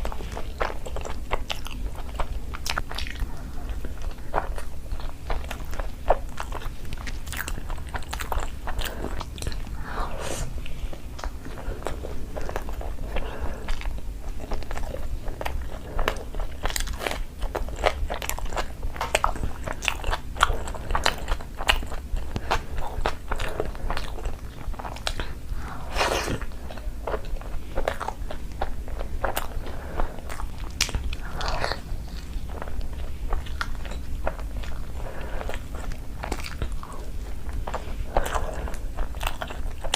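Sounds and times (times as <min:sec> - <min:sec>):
steady low hum: 0:00.0 - 0:39.9
wet chewing and lip-smacking: 0:00.0 - 0:39.9.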